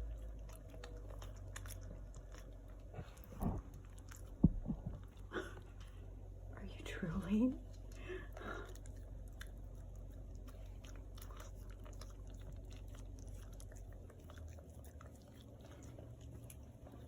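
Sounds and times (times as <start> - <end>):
dogs licking and chewing: 0.0 - 17.0.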